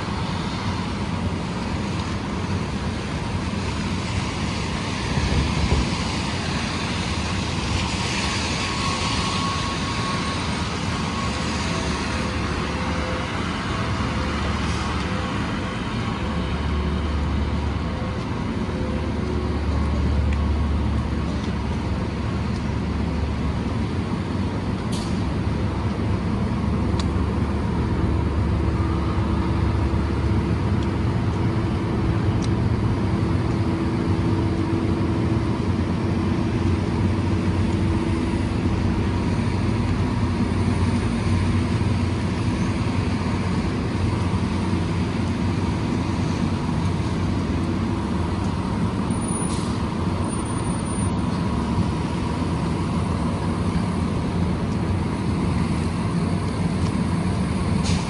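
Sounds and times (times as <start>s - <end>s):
engine hum: 0.0s - 58.0s
street traffic rumble: 0.0s - 58.0s.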